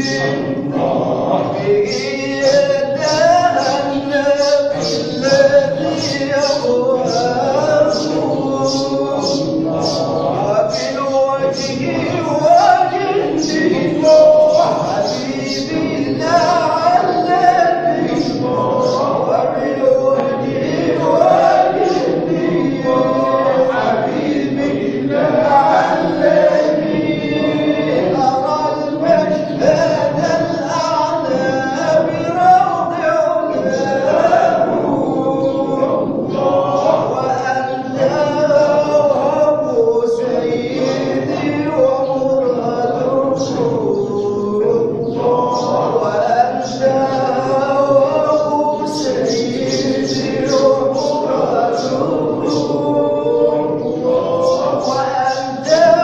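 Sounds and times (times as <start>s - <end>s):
group singing religious chant: 0.0s - 56.0s
solo singer leading: 0.0s - 56.0s.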